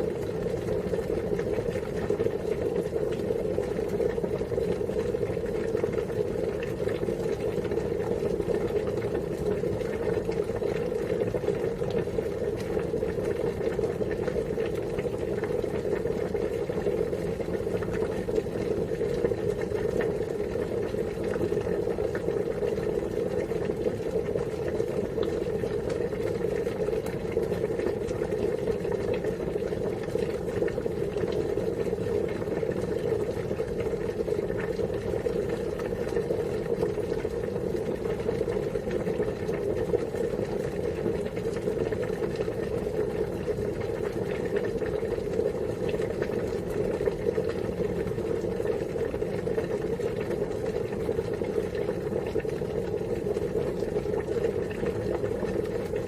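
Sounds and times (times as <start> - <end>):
water boiling and bubbling: 0.0 - 56.0.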